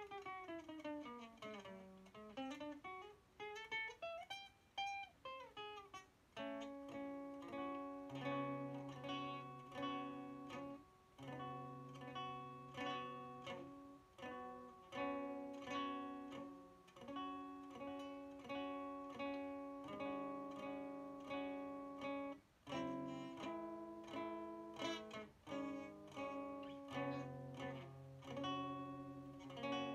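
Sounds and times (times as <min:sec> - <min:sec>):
acoustic guitar plucked chords: 0:00.0 - 0:29.9.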